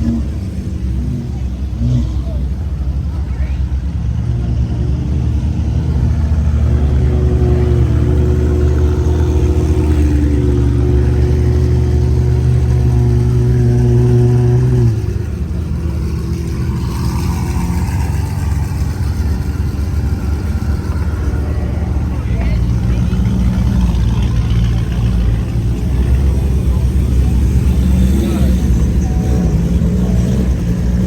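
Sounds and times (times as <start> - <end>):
car engine deep exhaust drone: 0.0 - 31.0.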